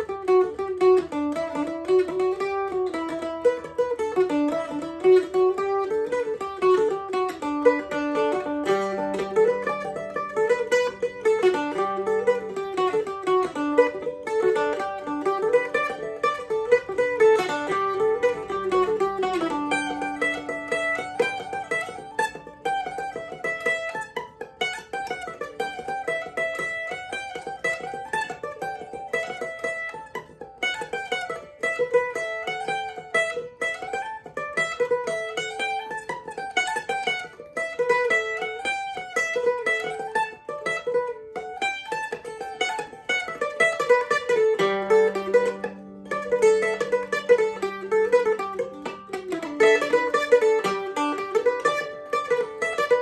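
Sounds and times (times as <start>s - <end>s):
mandolin picking a tune: 0.0s - 53.0s.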